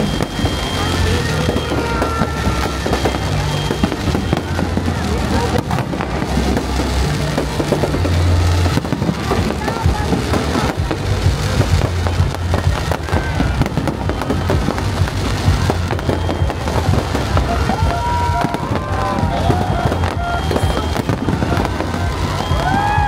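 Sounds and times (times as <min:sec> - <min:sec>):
fireworks bangs and crackles: 0:00.0 - 0:23.0
music playing: 0:00.0 - 0:23.0.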